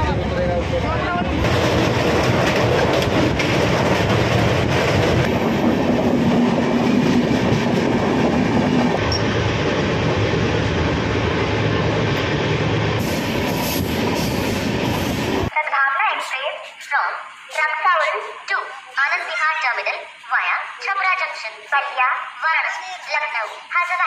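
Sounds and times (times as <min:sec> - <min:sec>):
train wheels running on track: 0:00.0 - 0:24.0.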